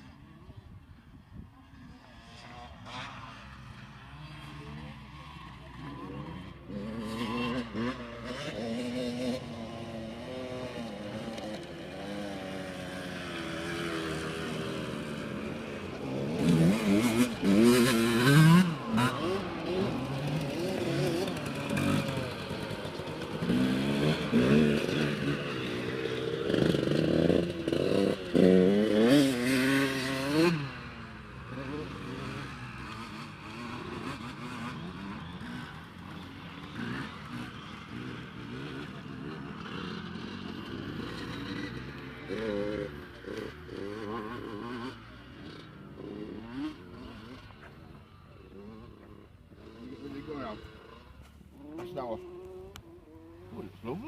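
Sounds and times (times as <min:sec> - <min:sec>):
motocross bikes revving: 0:01.4 - 0:54.0.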